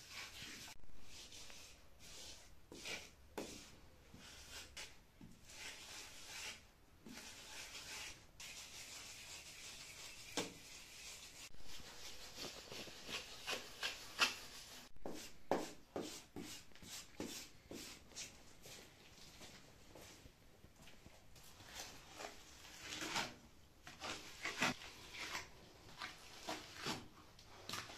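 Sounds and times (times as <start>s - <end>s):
wooden float scraping render: 0.0s - 18.8s, 21.4s - 27.9s.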